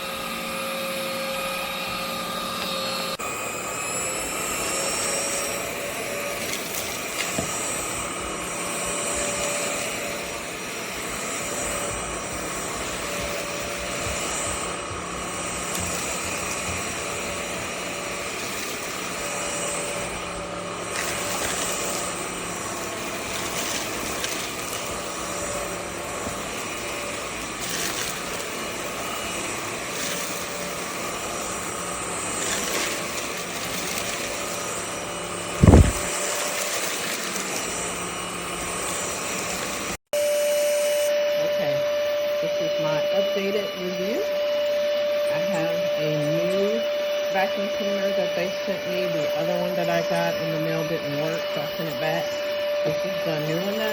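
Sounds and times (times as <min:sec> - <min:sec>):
stick vacuum running: 0:00.0 - 0:53.9.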